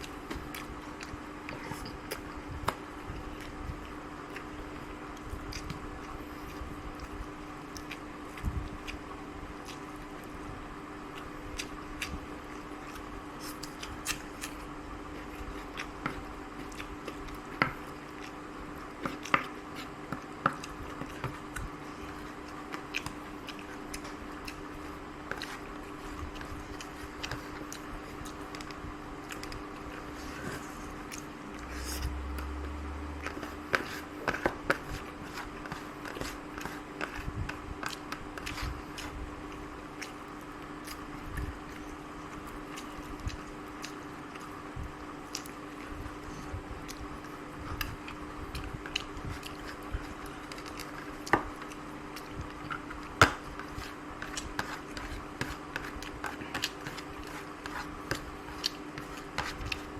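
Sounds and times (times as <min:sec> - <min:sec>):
person chewing: 0:00.0 - 0:10.5, 0:11.1 - 0:59.9
steady low hum: 0:00.0 - 0:59.9.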